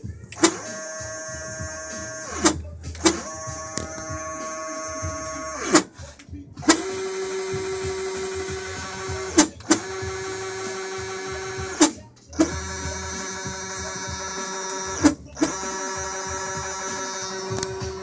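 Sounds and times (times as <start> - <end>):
stepper motors whining: 0.0 - 6.0, 6.6 - 18.0.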